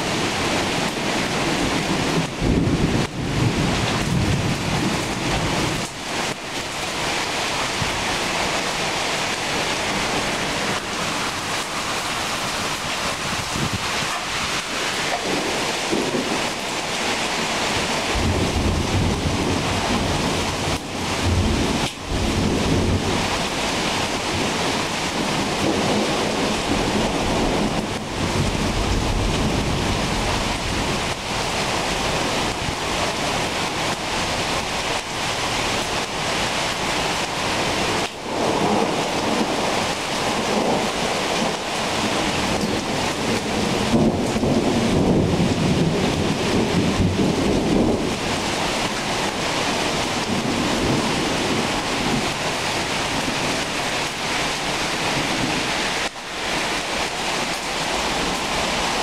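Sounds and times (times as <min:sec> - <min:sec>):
heavy rain falling: 0:00.0 - 0:59.0
wind gusting: 0:00.0 - 0:59.0.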